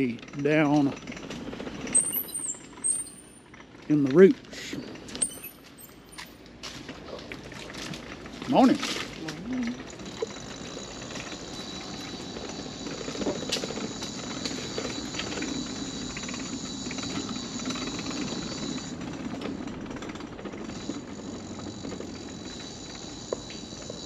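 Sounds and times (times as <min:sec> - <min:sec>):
wheels rattling over wooden planks: 0:00.0 - 0:24.0.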